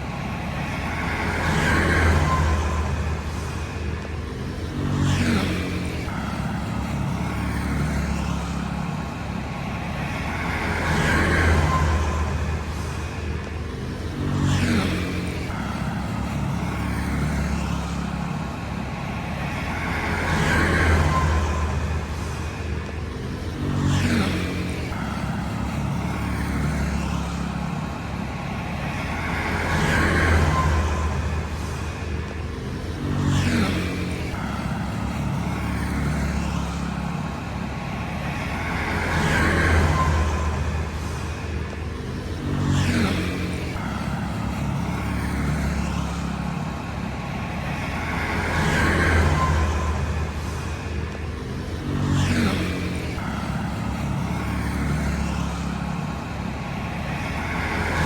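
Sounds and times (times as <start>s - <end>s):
street traffic rumble: 0.0s - 58.0s
vehicle engines running: 0.0s - 58.0s
vehicles passing: 0.0s - 58.0s.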